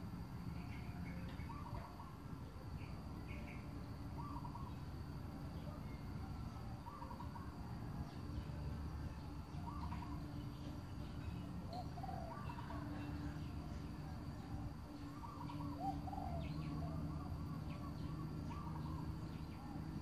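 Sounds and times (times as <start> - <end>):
low rumble of outdoor noise: 0.0 - 20.0
bird calling: 0.7 - 2.2, 3.2 - 5.0, 5.6 - 7.7, 9.2 - 20.0.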